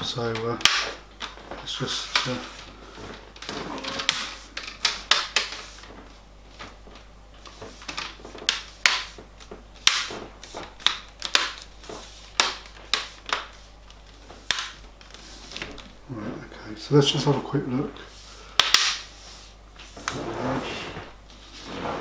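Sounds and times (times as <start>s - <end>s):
plastic rubbing: 0.3s - 16.4s, 19.0s - 22.0s.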